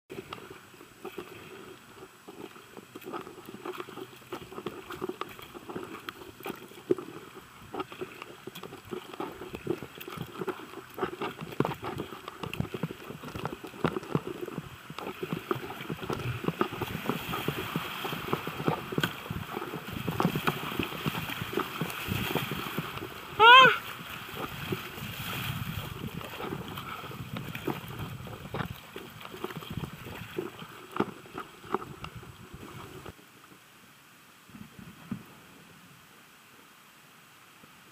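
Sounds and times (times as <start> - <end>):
water splashing: 0.1 - 33.2
water splashing against hull: 0.1 - 33.2
kayak paddle strokes: 0.1 - 33.6
rush of broken water: 0.1 - 33.6.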